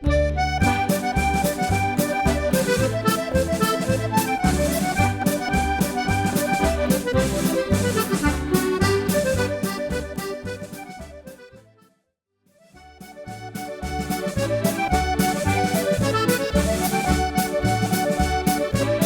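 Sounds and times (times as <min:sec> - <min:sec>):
accordion playing a reel: 0:00.0 - 0:11.9, 0:12.6 - 0:19.0.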